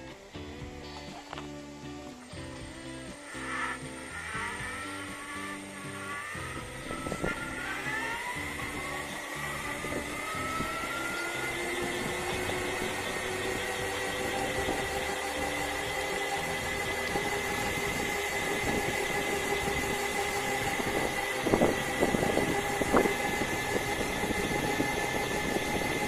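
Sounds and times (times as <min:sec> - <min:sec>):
electric motors whining: 0:00.0 - 0:26.0
tyre and road noise: 0:00.0 - 0:26.0.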